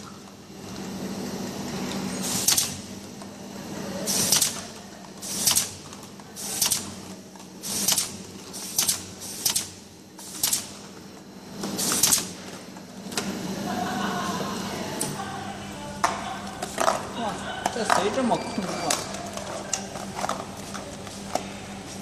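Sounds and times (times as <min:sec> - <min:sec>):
conveyor motor hum: 0:00.0 - 0:22.0.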